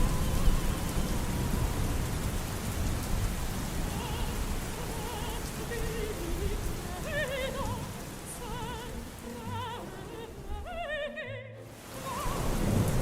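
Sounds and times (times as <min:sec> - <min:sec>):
operatic singing: 0:00.0 - 0:02.9, 0:03.5 - 0:13.0
steady rain: 0:00.0 - 0:13.0.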